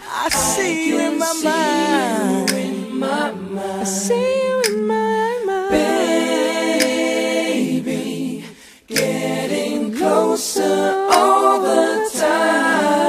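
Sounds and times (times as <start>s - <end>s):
a cappella group singing in harmony: 0.0s - 13.0s.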